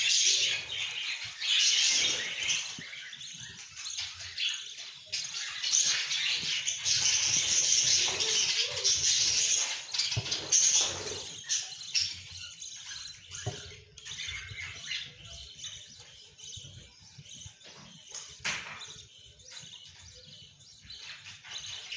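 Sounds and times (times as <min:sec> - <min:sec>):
budgerigar chicks cheeping: 0:00.0 - 0:21.9.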